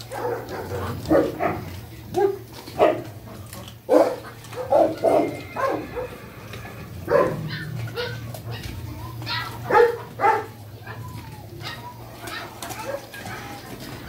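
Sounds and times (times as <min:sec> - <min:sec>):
dogs barking: 0:00.0 - 0:14.0.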